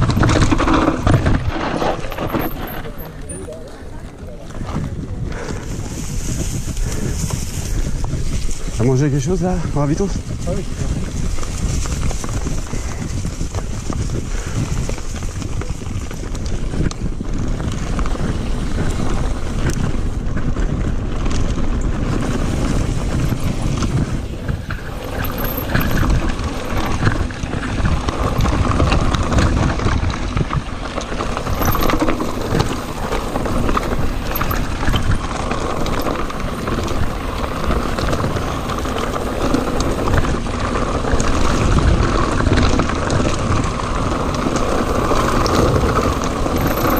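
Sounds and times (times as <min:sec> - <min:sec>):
bicycle tyre noise: 0:00.0 - 0:46.9
bike rattling on rough ground: 0:00.0 - 0:46.9
wind buffeting microphone: 0:00.0 - 0:46.9.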